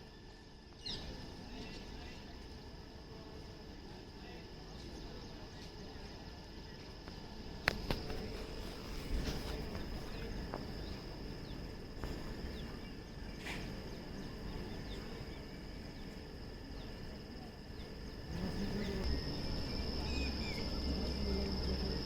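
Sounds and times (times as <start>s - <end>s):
insects calling: 0.0s - 22.0s.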